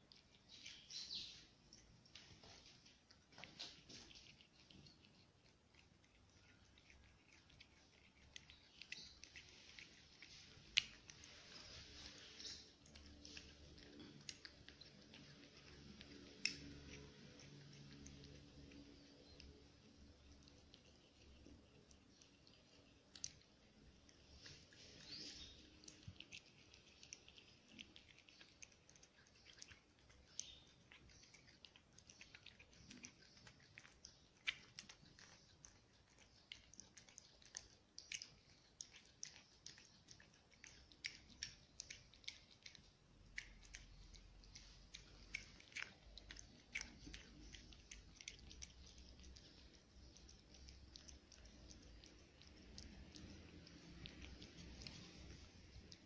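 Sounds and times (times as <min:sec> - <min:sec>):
cat chewing food: 0:00.0 - 0:56.0.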